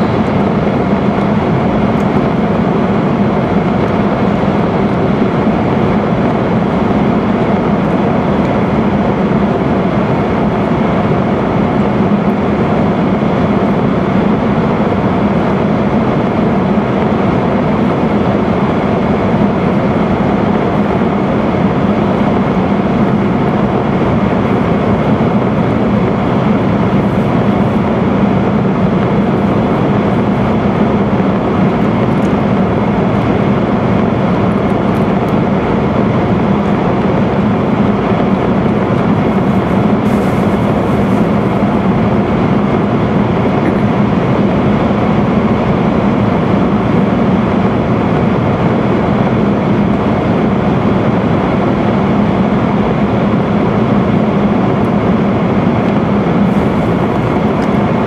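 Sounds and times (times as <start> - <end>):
train running through tunnel: 0.0 - 58.0.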